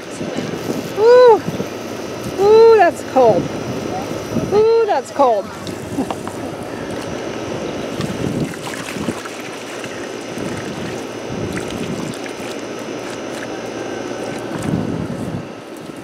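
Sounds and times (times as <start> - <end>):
garden hose spraying water: 0.0 - 16.0.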